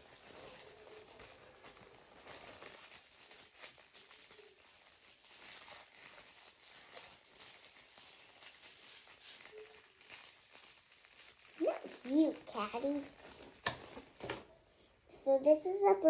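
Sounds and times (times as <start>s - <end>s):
packaging rustling and crinkling: 0.0s - 14.6s.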